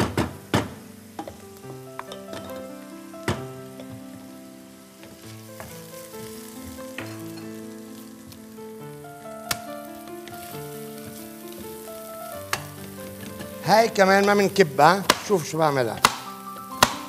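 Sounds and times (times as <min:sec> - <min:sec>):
soft background music: 0:00.0 - 0:17.0
vegetables sizzling in a frying pan: 0:00.0 - 0:17.0.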